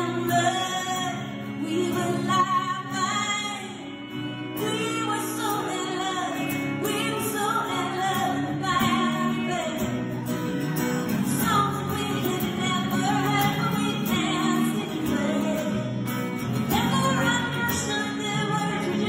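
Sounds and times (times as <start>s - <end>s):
strummed acoustic guitar: 0.0s - 19.0s
woman singing country song: 0.0s - 19.0s.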